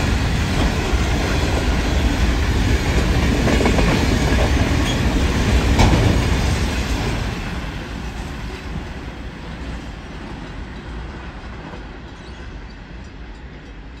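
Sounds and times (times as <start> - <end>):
freight train rolling over rails: 0.0 - 14.0.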